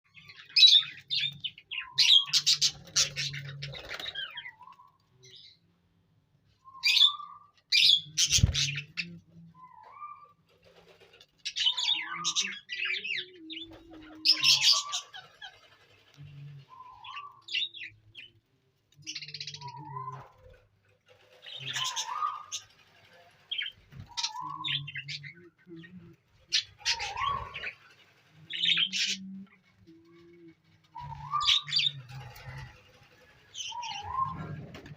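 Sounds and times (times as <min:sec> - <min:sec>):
budgerigars chirping and chattering: 0:00.1 - 0:05.6, 0:06.7 - 0:18.4, 0:19.0 - 0:30.3, 0:30.9 - 0:34.8.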